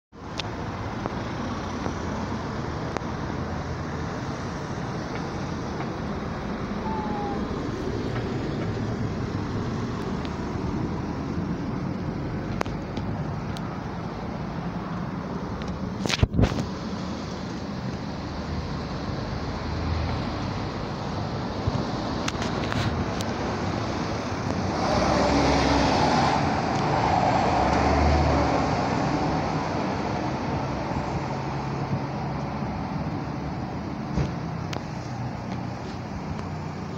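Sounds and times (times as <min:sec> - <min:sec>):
rumble of engines and tyres: 0:00.1 - 0:36.9
street traffic passing: 0:00.1 - 0:36.9.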